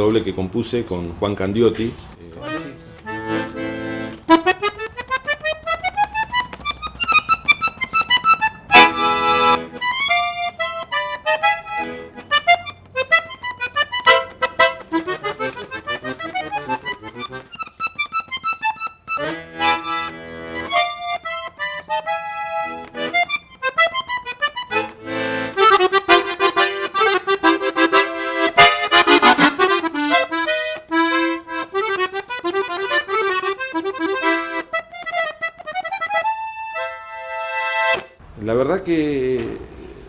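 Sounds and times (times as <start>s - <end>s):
accordion playing folk tune: 2.4s - 38.2s.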